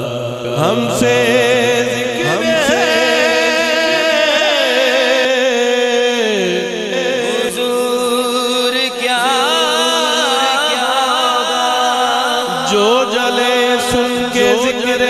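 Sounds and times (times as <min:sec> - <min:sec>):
man singing a cappella: 0:00.0 - 0:15.0.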